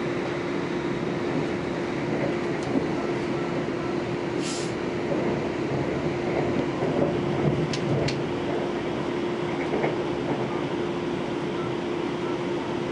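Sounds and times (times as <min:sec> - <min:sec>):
train rumble inside carriage: 0:00.0 - 0:12.9.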